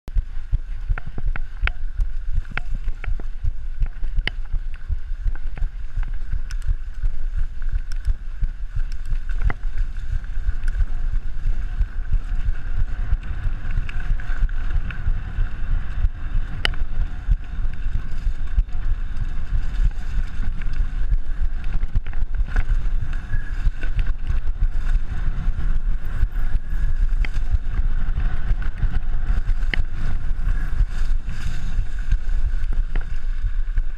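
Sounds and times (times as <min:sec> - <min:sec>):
bike clicks and rattles: 0:00.1 - 0:33.9
wind buffeting microphone: 0:00.1 - 0:33.9.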